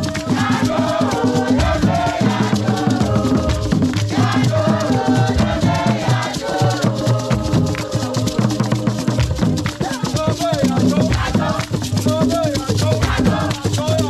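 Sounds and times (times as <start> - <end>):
group singing: 0.0 - 14.0
hand drums fast rhythm: 0.0 - 14.0
people clapping: 0.0 - 14.0
shaker rattling: 0.0 - 14.0.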